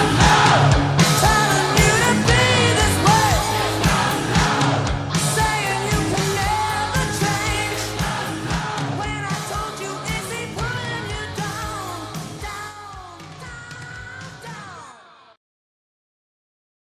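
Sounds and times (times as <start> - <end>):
rock music with singing: 0.0 - 15.4.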